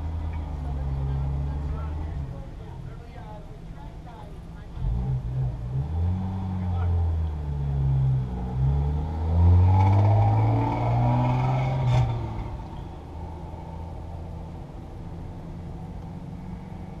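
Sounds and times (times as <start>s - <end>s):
car engine: 0.0s - 17.0s.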